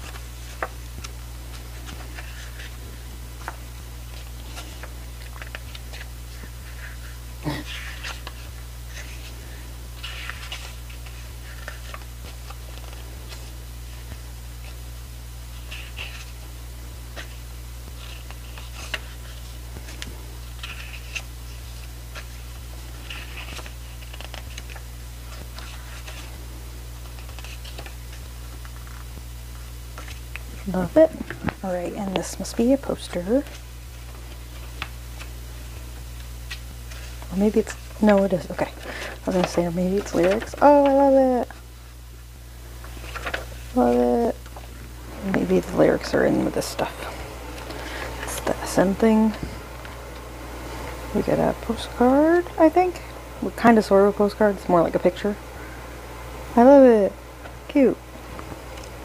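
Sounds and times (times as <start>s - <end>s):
photo book pages turning: 0.0s - 14.8s, 15.5s - 16.4s, 17.1s - 41.7s, 42.8s - 50.3s
steady low hum: 0.0s - 59.0s.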